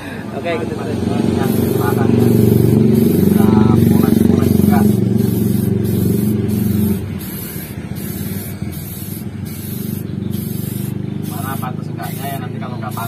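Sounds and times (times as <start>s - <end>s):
spray paint can hissing: 0.5s - 13.0s.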